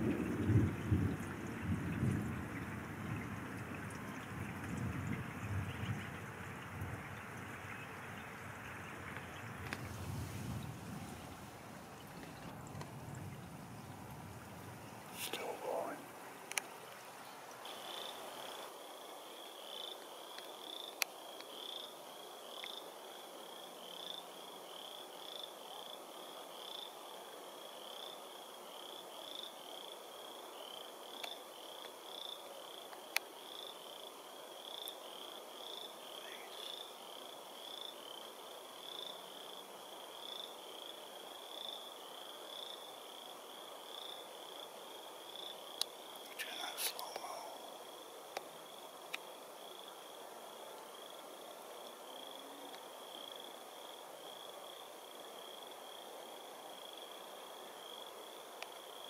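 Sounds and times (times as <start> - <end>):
faint outdoor hiss: 0.0 - 59.0.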